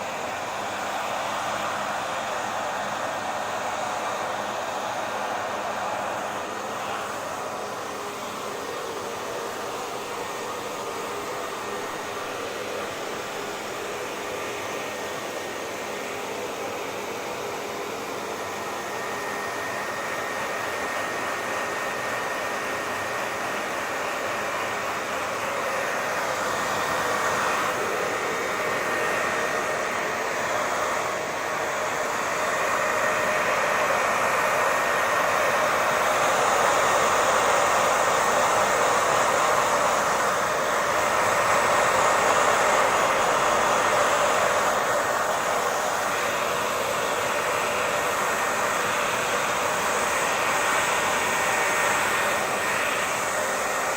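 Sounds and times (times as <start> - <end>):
hair dryer running: 0.0 - 53.9.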